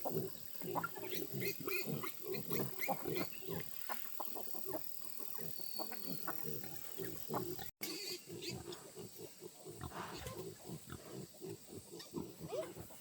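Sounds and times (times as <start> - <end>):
farm animals calling: 0.0 - 13.0.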